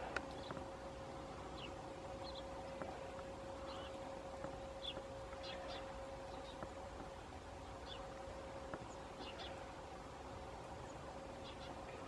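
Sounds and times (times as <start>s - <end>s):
faint steady hum: 0.0s - 12.0s
small birds chirping: 0.0s - 12.0s.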